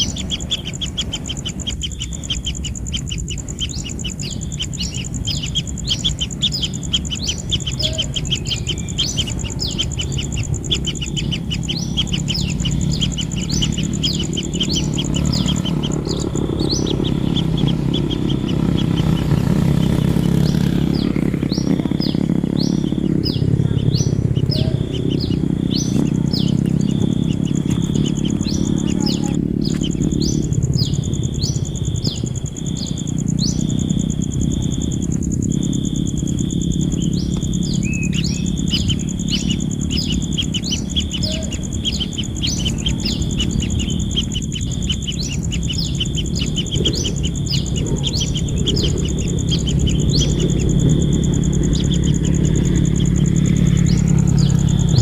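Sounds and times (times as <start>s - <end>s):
bird chirping: 0.0s - 55.0s
low rumble: 0.0s - 55.0s.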